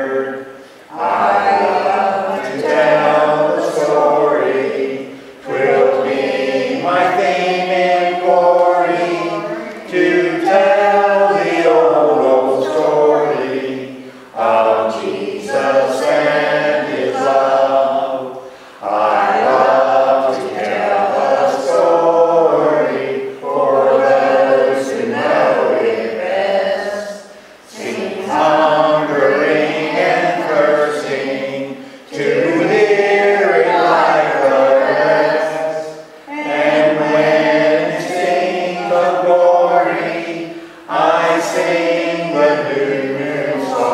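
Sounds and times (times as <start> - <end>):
group singing a hymn: 0.0 - 43.9.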